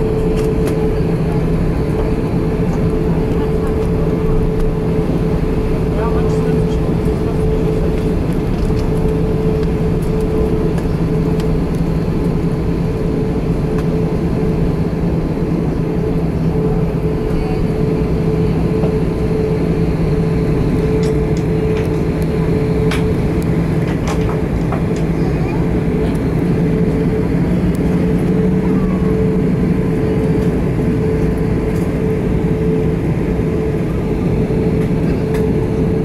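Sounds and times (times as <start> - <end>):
aircraft cabin drone: 0.0 - 36.0.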